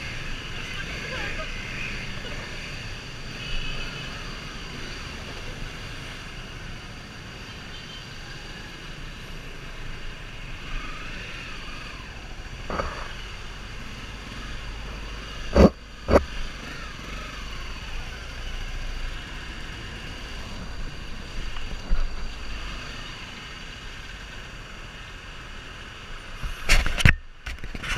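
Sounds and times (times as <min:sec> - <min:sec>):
motorcycle engine rumble: 0:00.0 - 0:27.9.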